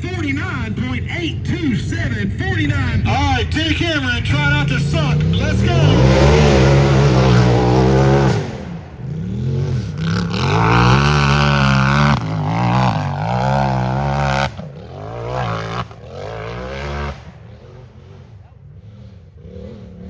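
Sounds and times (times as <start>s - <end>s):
off-road vehicle engine at full throttle: 0.0s - 20.0s.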